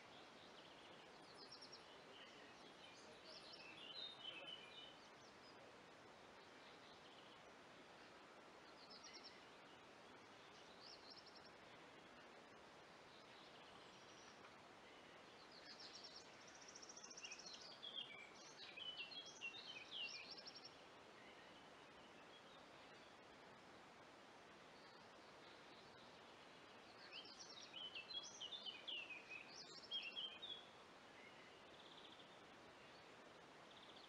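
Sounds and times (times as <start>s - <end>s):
low hiss: 0.0s - 34.0s
songbird singing: 0.0s - 34.0s.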